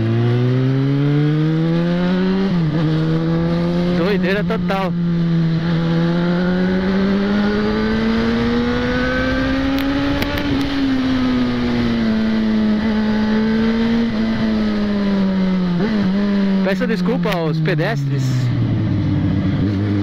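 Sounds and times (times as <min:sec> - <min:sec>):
motorcycle engine under throttle: 0:00.0 - 0:17.6, 0:18.2 - 0:20.0
wind and road noise: 0:00.0 - 0:20.0.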